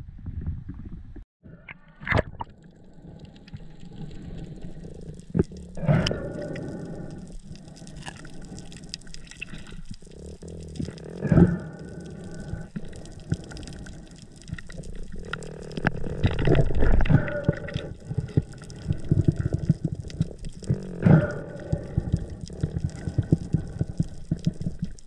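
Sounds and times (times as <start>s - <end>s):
underwater rushing and bubbling: 0.4s - 25.0s.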